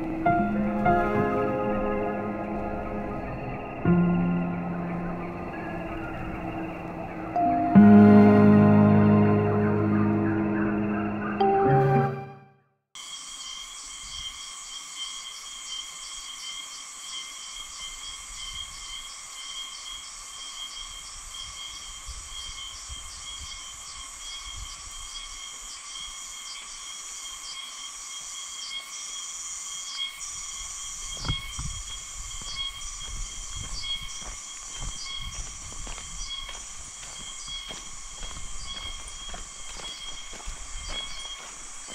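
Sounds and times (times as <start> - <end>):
forest insects chorus: 0.0 - 8.2, 13.0 - 41.9.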